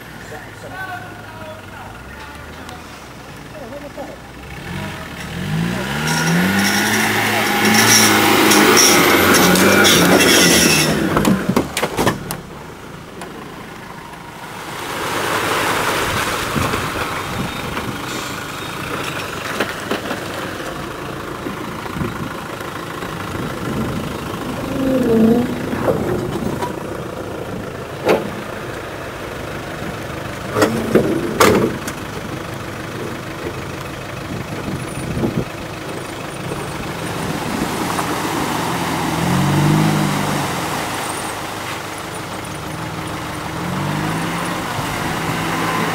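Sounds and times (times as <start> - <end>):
off-road vehicle engine running: 0.0 - 45.9.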